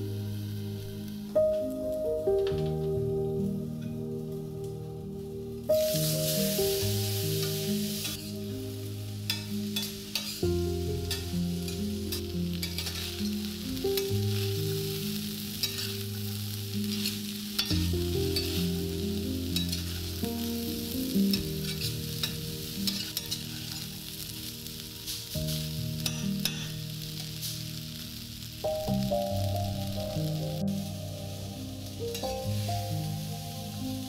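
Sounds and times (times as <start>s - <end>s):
vegetables sizzling in a frying pan: 0.0s - 34.0s.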